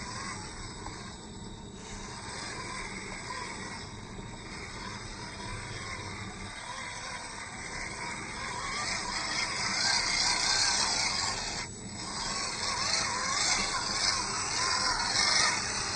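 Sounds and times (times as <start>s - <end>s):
toy truck electric motor whining: 0.0s - 1.2s, 1.8s - 15.9s.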